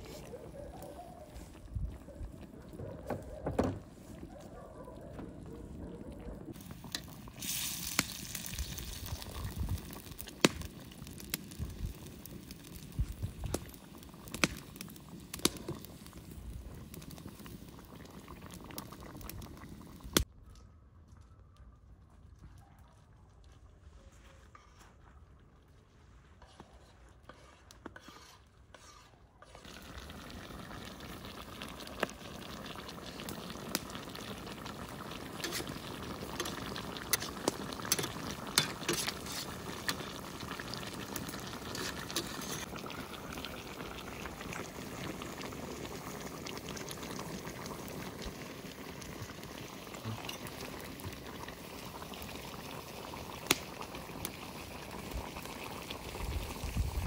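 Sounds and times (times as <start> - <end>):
pot boiling with pops: 0.0 - 21.6, 26.4 - 57.0.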